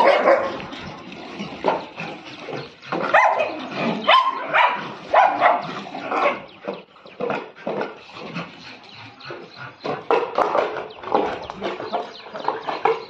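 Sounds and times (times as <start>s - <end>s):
dogs barking and yelping: 0.0s - 13.0s.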